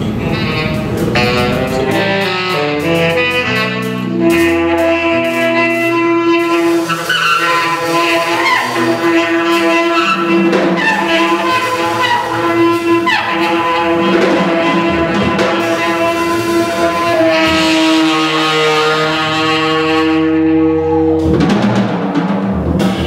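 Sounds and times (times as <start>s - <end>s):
saxophone holding long note: 0.0s - 21.4s
electric bass: 0.0s - 21.7s
drums: 0.0s - 23.0s.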